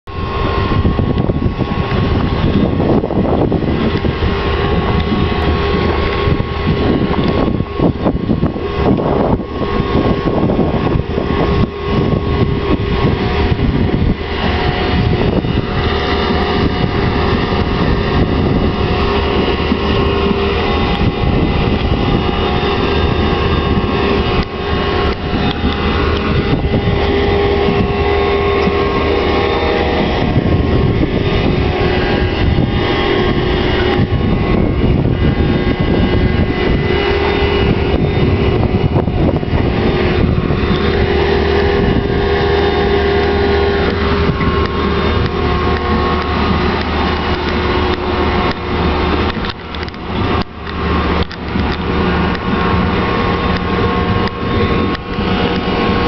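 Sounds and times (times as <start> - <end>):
conveyors rumbling: 0.0 - 56.0
diesel engine running under load: 0.0 - 56.0.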